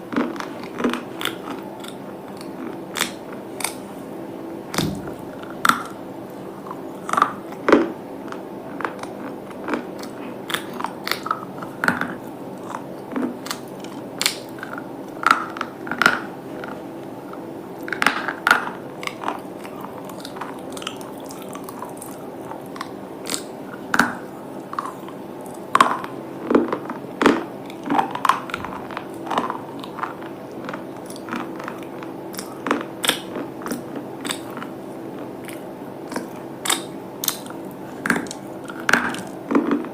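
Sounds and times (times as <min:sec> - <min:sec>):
person chewing crunchy pieces: 0:00.0 - 0:04.0, 0:04.7 - 0:39.9
faint steady hum: 0:00.0 - 0:39.9.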